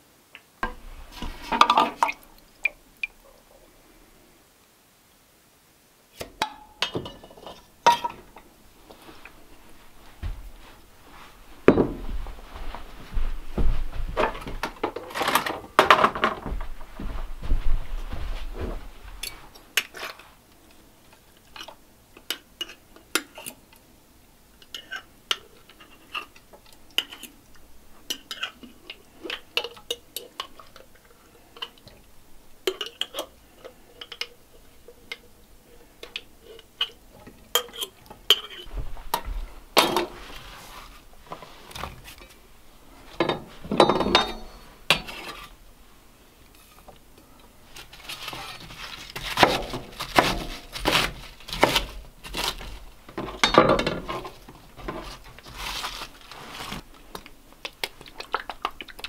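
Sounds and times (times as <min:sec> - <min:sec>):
scraping and handling noise: 0:00.6 - 0:02.6, 0:06.2 - 0:23.9, 0:24.6 - 0:59.0.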